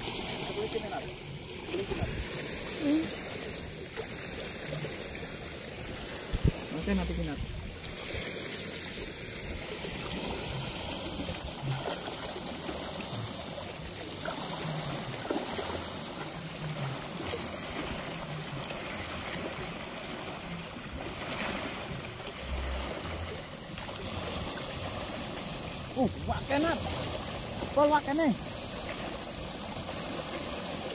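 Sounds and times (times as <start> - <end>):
river water rushing over weir: 0.0 - 30.9
splashing in water: 0.0 - 30.9.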